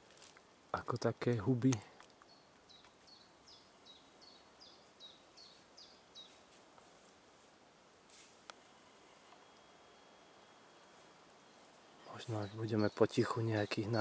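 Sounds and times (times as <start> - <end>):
songbird singing: 0.0 - 7.0, 8.4 - 14.0
faint rustle: 0.0 - 14.0.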